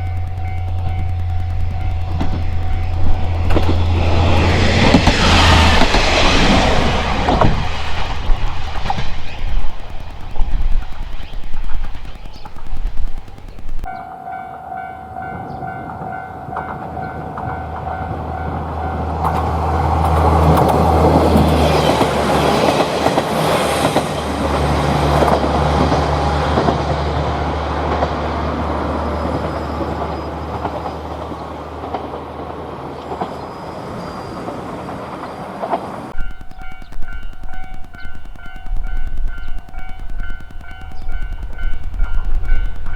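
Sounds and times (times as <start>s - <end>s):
wheels rushing on rails: 0.0s - 14.0s, 15.3s - 42.9s
crossing warning bell ringing: 0.0s - 25.5s, 33.0s - 42.9s
diesel railcar engine drone: 0.0s - 42.9s.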